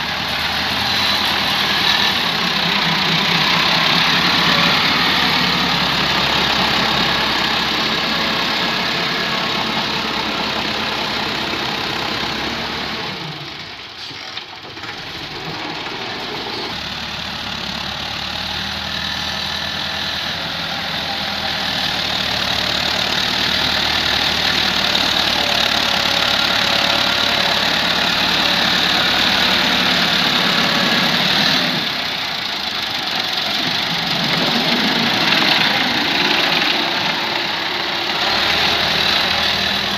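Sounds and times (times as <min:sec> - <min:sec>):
tractor diesel engines running: 0:00.0 - 0:39.9.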